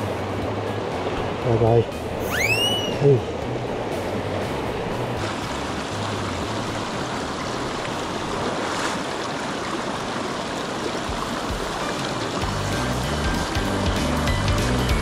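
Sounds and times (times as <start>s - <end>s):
stream running over stones: 0.0s - 15.0s.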